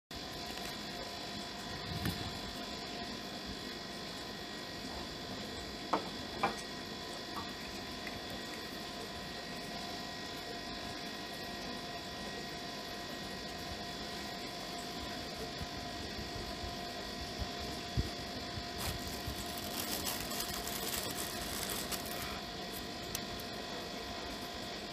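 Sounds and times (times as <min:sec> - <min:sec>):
whining hum over low rumble: 0:00.1 - 0:24.9.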